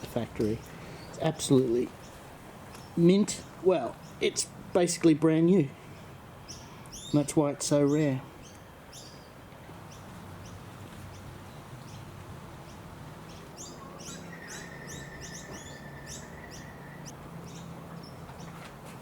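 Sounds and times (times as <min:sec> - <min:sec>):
birds chirping: 0:00.0 - 0:18.7.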